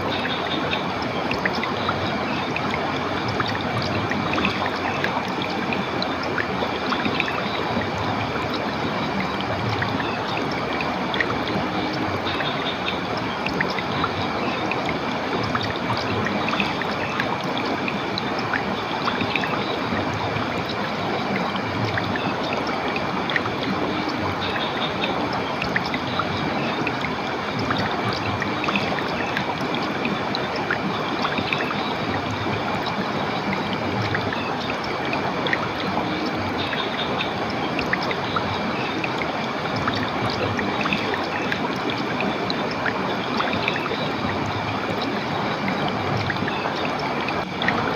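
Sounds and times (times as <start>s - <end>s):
stream water flowing: 0.0s - 47.9s.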